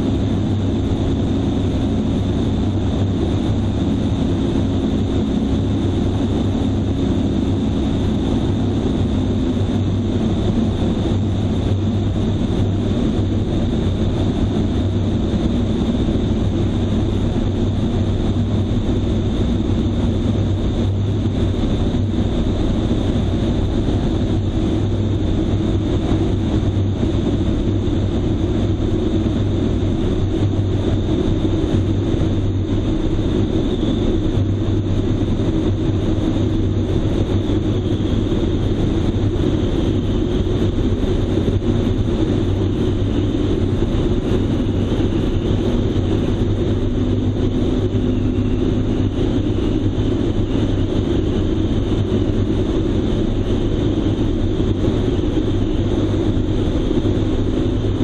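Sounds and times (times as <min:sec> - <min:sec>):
light aircraft engine running: 0:00.0 - 0:58.0
wind rushing over microphone: 0:00.0 - 0:58.0.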